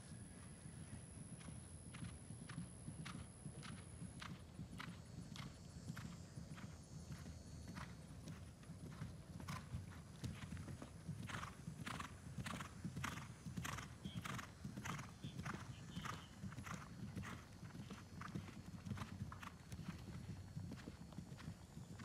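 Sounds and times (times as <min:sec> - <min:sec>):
horse hoofbeats on grass: 0:00.8 - 0:22.0.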